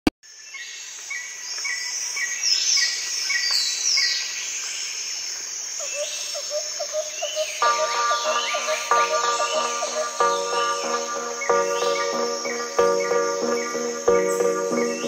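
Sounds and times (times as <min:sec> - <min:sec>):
insects and crickets: 0:00.2 - 0:15.0.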